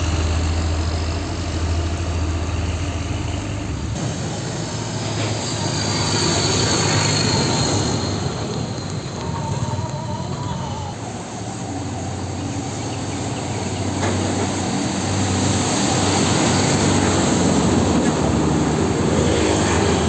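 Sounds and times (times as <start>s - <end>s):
diesel truck engine drone: 0.0s - 20.0s
truck passing close by: 0.0s - 20.0s.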